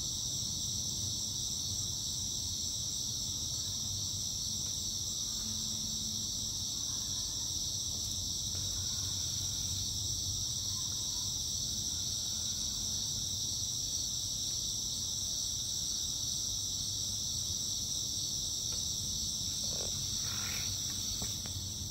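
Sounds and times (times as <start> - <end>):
crickets chirping: 0.0 - 21.9.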